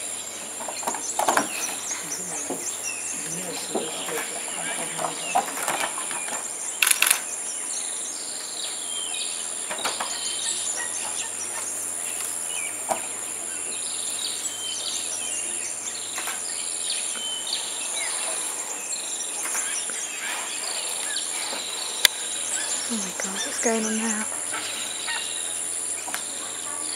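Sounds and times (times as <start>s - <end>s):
bird chirps: 0.0s - 26.9s
high-pitched insect drone: 0.0s - 26.9s.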